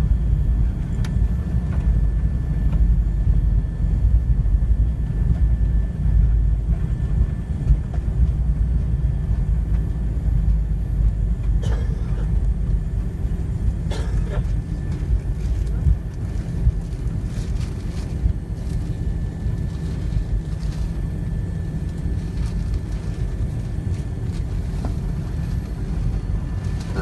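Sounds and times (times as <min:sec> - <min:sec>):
jet engines idling: 0:00.0 - 0:27.0
wheels rolling on taxiway: 0:00.6 - 0:27.0.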